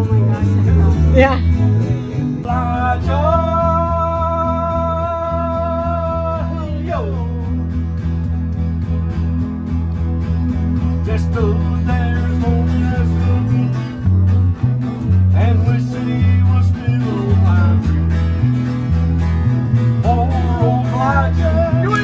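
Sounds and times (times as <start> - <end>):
guitars playing country tune: 0.0 - 22.0
stepping bass line: 0.0 - 22.0.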